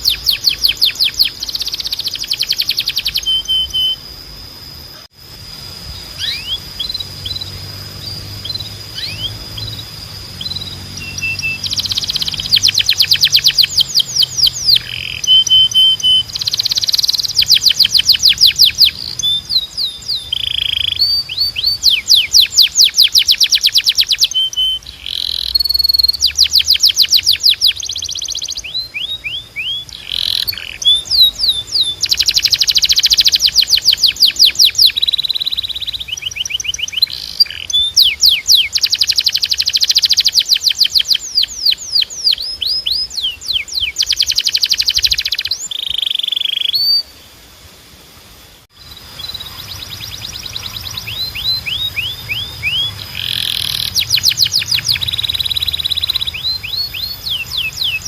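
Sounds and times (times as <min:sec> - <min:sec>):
canary singing trills: 0:00.0 - 0:05.1, 0:05.7 - 0:47.4, 0:48.7 - 0:58.0.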